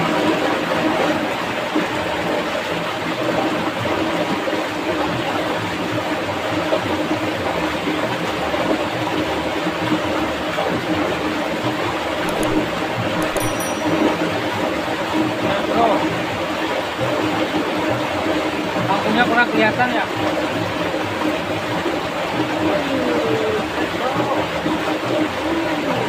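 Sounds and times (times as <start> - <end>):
stream rushing over rocks: 0.0 - 13.2, 14.0 - 26.0.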